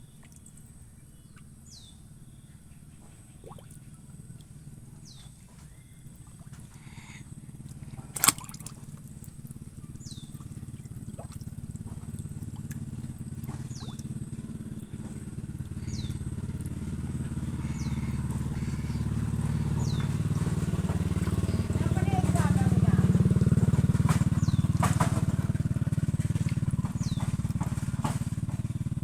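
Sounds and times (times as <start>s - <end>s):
motor engine running: 0.0s - 29.0s.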